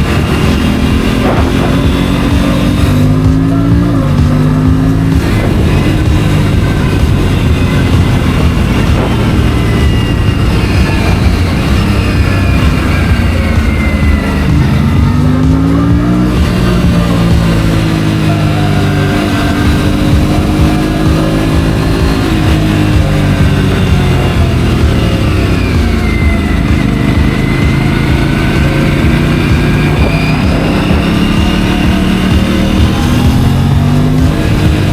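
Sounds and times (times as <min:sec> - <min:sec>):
motorcycle engine running: 0:00.0 - 0:34.9
wind rush on microphone: 0:00.0 - 0:34.9.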